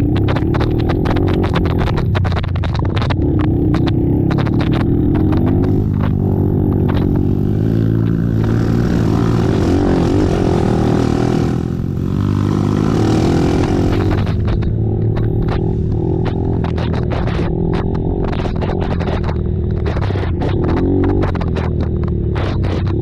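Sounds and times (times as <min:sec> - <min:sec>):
racing quad engines revving: 0:00.0 - 0:23.0.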